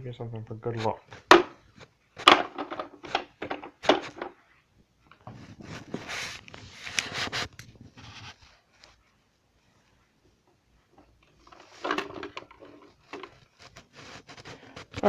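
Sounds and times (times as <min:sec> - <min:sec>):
rustling and scraping: 0:00.7 - 0:15.0.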